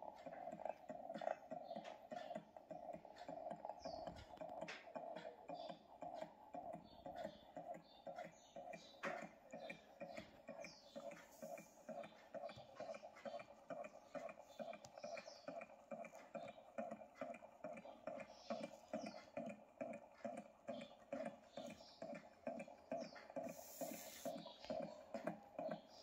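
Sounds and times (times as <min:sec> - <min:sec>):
stirling engine faint clicking: 0:00.0 - 0:26.0.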